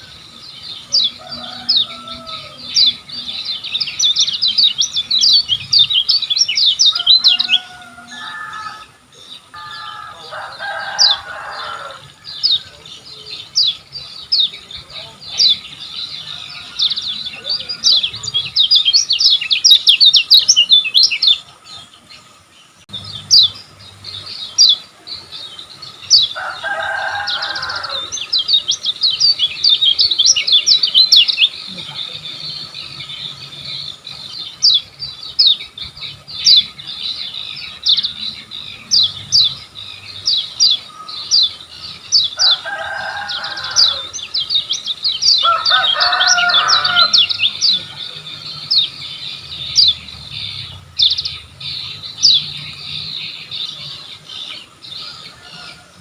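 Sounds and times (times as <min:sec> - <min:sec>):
white-eye chirping song: 0:00.0 - 0:56.0.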